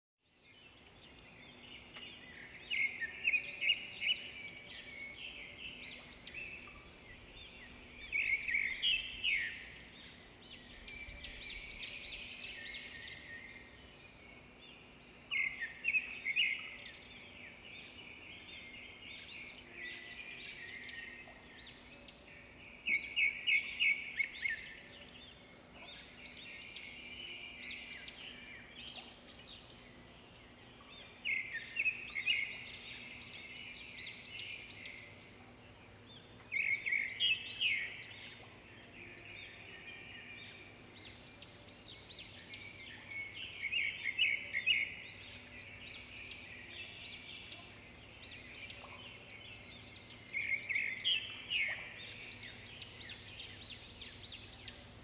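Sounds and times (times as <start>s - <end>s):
birds chirping: 0.4s - 55.0s.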